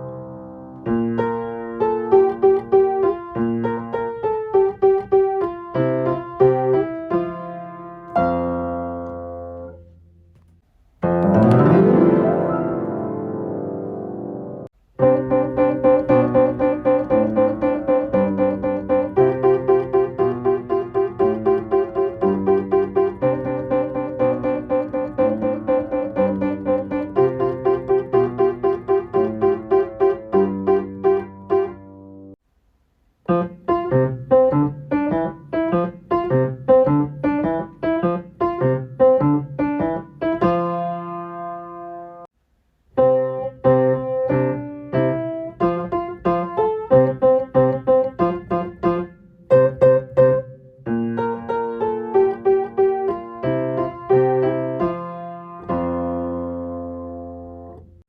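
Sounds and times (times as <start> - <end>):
piano playing: 0.0 - 32.4, 33.2 - 42.3, 43.0 - 58.0.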